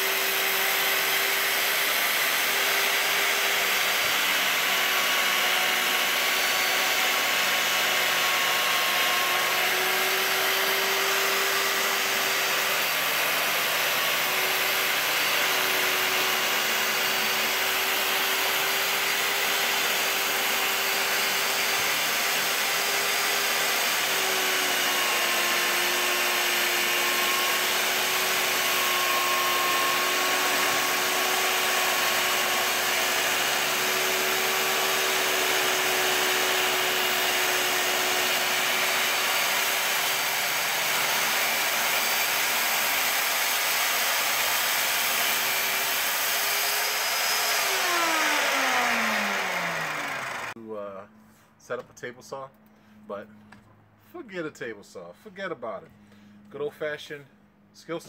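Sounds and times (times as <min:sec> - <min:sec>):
circular saw cutting wood: 0:00.0 - 0:51.0.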